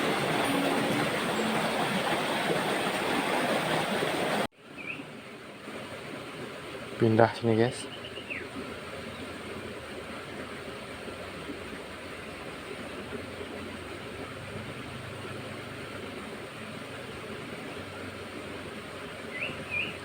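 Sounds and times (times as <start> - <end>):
water rushing in a channel: 0.0 - 20.0.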